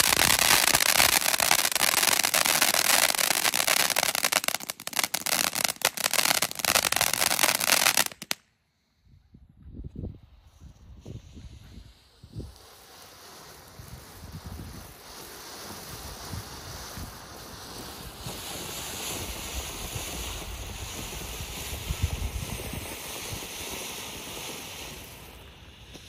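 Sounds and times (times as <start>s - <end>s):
firework fountain hissing: 0.0s - 8.4s, 10.6s - 26.0s
firework crackles and pops: 0.0s - 8.5s, 9.8s - 26.0s.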